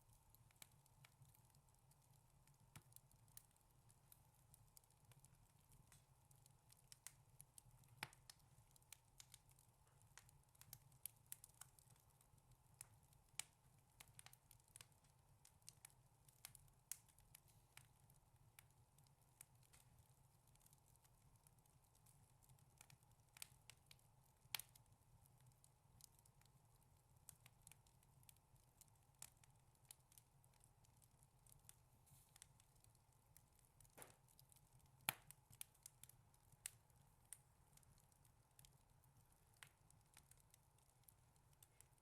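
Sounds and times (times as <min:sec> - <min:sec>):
wood fire popping and snapping: 0:00.0 - 0:42.0.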